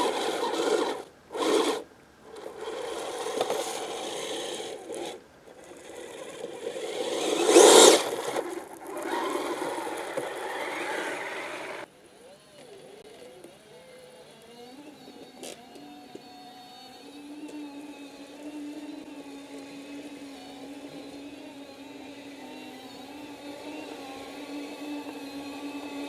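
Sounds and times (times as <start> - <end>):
toy electric motor whirring: 0.0 - 26.0.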